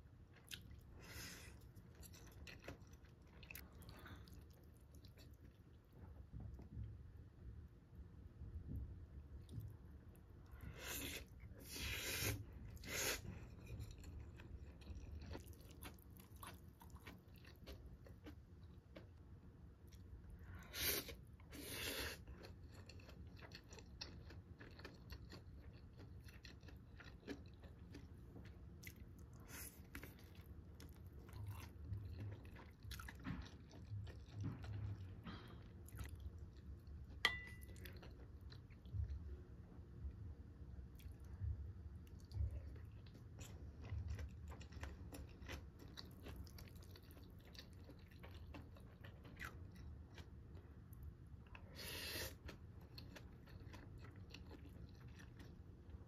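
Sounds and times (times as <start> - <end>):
chewing and crunching food: 0.0 - 7.0, 8.7 - 56.0.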